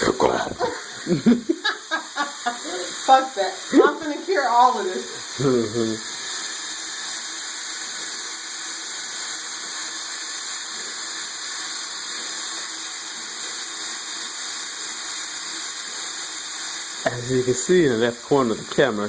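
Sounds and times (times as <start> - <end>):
water tap running into sink: 0.0 - 19.0.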